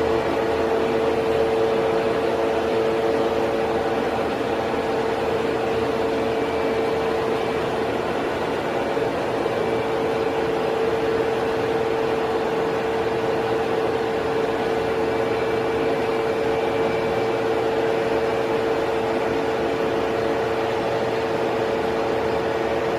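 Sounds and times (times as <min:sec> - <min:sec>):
gear cutting machine humming: 0:00.0 - 0:22.9.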